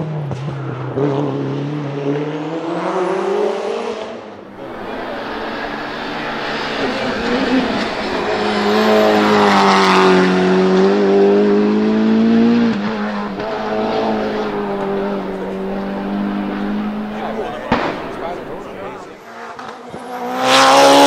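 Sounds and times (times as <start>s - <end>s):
car engine at full throttle passing: 0.0s - 21.0s.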